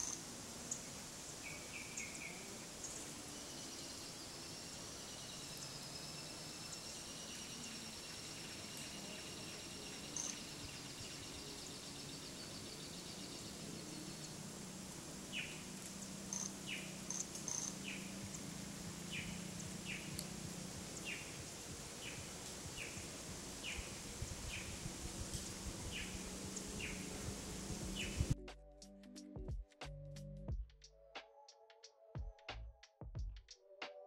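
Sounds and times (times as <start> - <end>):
bird chirping: 0.0 - 28.4
faint insect hum: 0.0 - 28.4.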